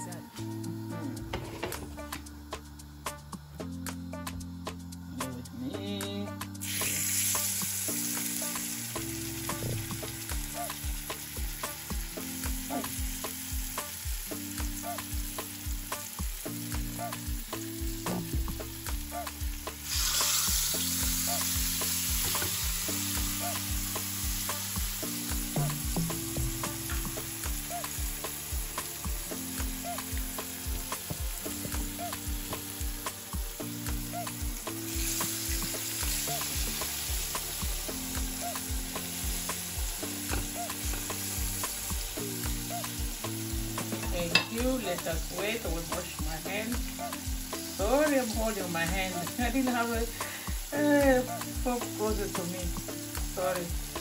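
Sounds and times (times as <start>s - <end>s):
background music with beat: 0.0s - 54.0s
fish sizzling in hot oil: 0.0s - 54.0s.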